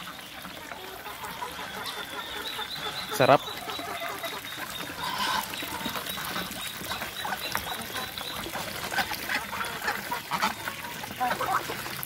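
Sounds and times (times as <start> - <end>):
ducks' bills clicking and dabbling: 0.0 - 12.0.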